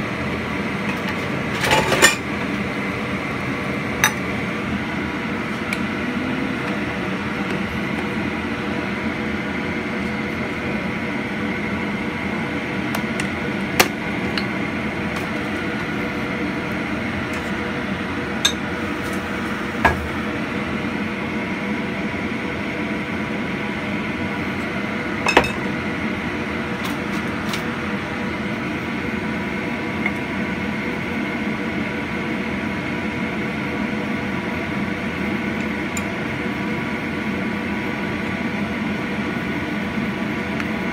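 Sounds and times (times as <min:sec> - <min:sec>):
kitchen hum and hiss: 0:00.0 - 0:40.9.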